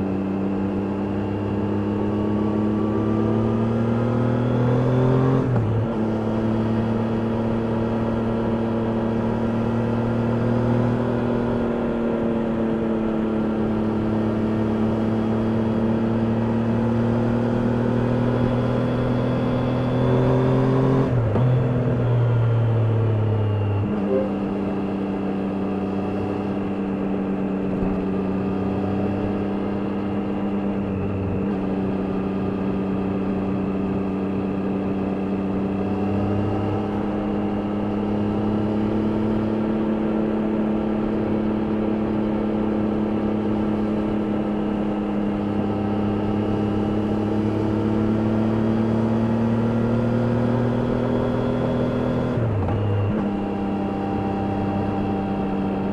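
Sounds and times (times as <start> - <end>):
motorcycle engine on the road: 0.0 - 55.9.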